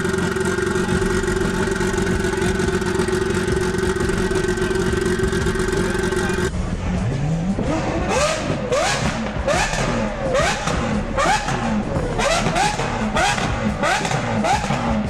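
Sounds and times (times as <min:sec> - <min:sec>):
sports car engine revving: 0:00.0 - 0:15.0.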